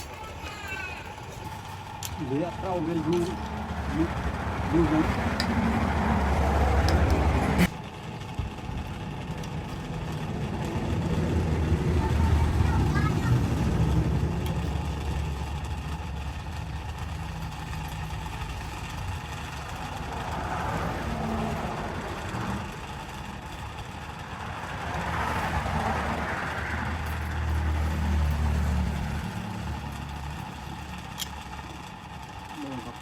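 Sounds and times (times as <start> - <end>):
machine motor running: 0.0 - 33.0.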